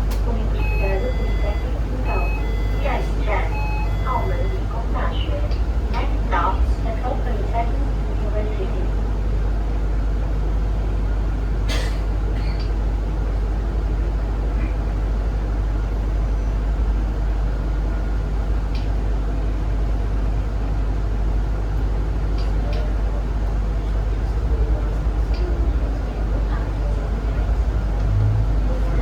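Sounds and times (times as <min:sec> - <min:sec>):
bus engine low rumble: 0:00.0 - 0:29.0.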